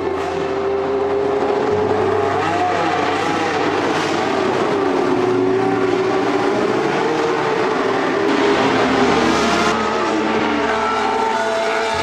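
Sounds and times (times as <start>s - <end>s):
racing car engines at low revs: 0.0s - 12.0s.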